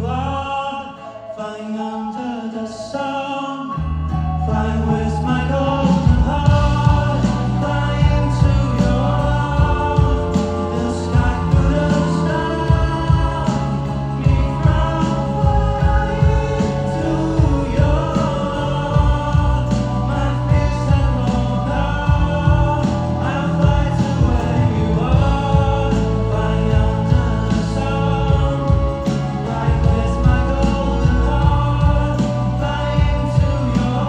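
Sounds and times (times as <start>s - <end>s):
person singing: 0.0s - 34.0s
live band playing: 4.1s - 34.0s.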